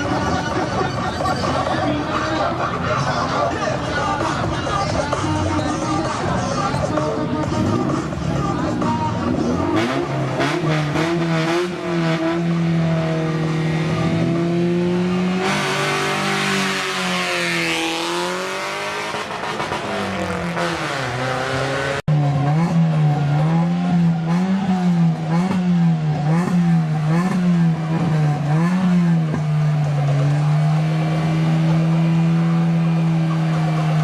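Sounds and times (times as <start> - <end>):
race car engine revving: 5.0 - 34.0.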